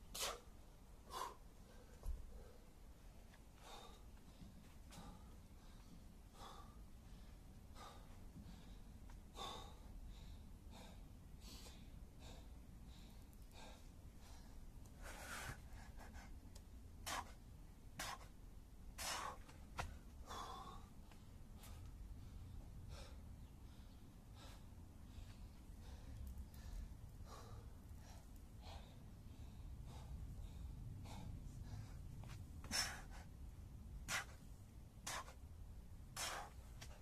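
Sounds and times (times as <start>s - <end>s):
man breathing hard: 0.1s - 18.4s, 19.0s - 35.5s, 36.1s - 37.0s.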